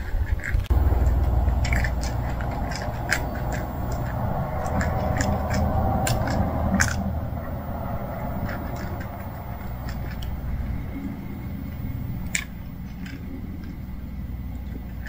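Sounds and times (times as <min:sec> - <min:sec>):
cats chewing wetly: 0:00.0 - 0:15.0
steady low rumble: 0:00.7 - 0:15.0.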